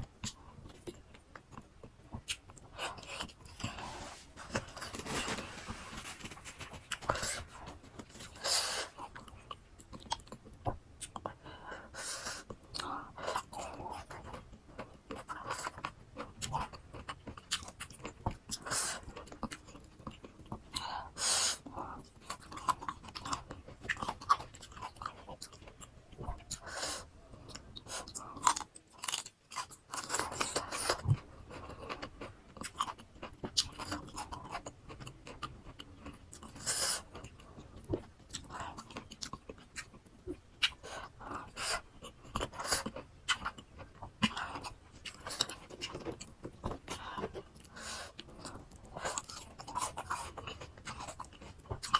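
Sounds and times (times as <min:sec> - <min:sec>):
person chewing crunchy fruit: 0:00.2 - 0:11.5, 0:12.4 - 0:51.9.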